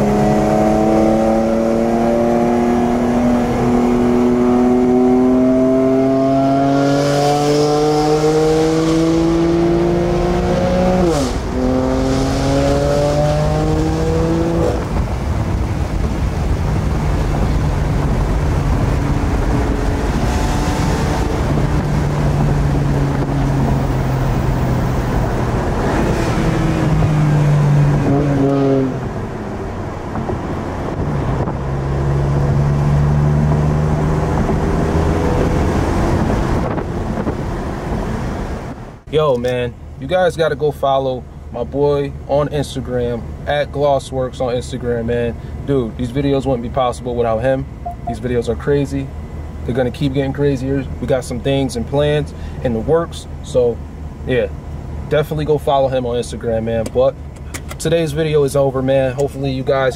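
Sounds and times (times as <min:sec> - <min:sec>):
car engine heard from inside cabin: 0:00.0 - 0:41.3, 0:42.0 - 0:59.9.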